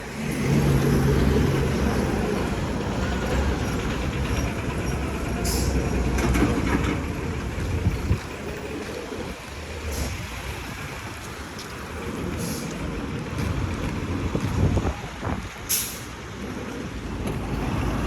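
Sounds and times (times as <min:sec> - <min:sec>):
vehicle engines passing: 0:00.0 - 0:18.0.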